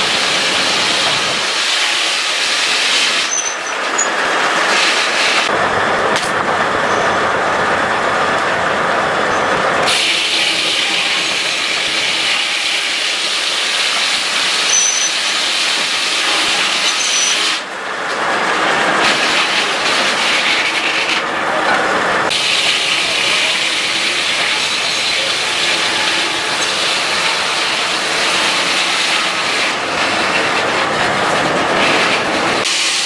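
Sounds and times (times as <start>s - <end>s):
circular saw cutting log: 0.0s - 5.5s, 9.8s - 17.7s, 18.6s - 21.4s, 22.3s - 33.0s.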